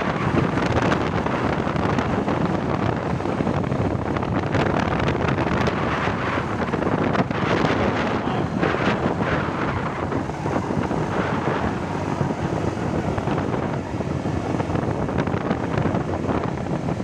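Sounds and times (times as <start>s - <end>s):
bus exhaust growling: 0.0s - 17.0s
traffic roar: 0.0s - 17.0s
wind buffeting microphone: 0.0s - 17.0s.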